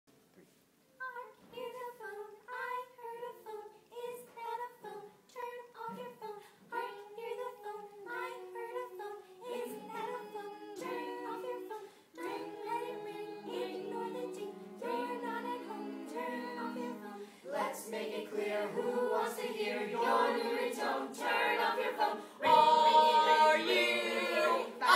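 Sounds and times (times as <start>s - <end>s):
choir singing a cappella: 1.1s - 24.9s.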